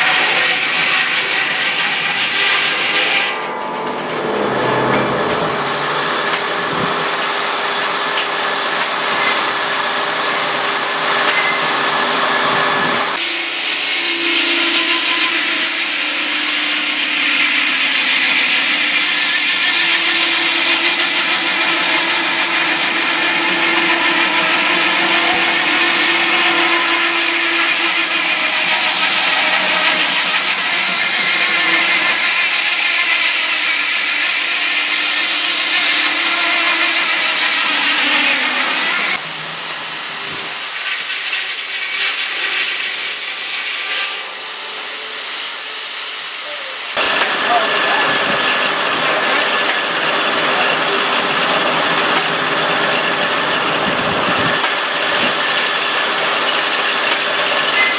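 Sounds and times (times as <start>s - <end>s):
saw cutting through log: 0.0s - 57.9s.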